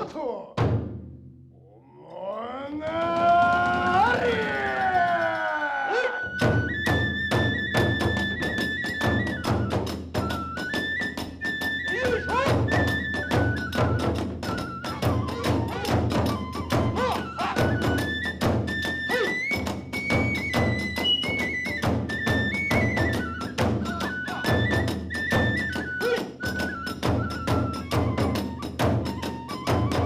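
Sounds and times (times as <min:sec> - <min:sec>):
fast drum strokes: 0:02.8 - 0:05.5, 0:06.3 - 0:30.0
bamboo flute melody: 0:02.9 - 0:30.0.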